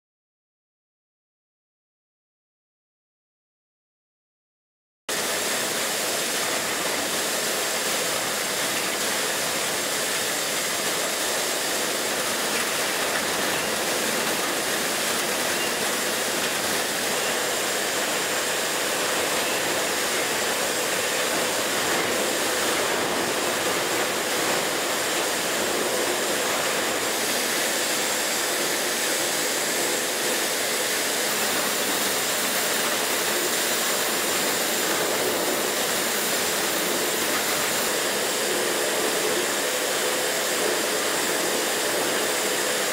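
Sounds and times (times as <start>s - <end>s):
hydraulics hissing: 5.2s - 42.8s.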